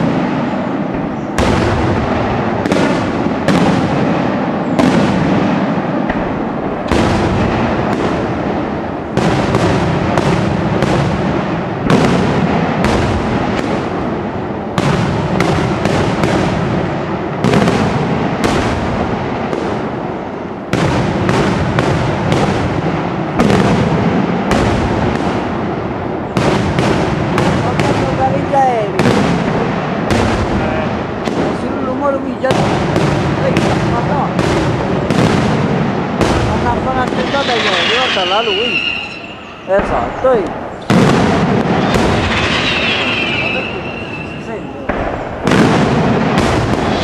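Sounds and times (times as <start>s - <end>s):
firework bangs: 0.0s - 47.0s.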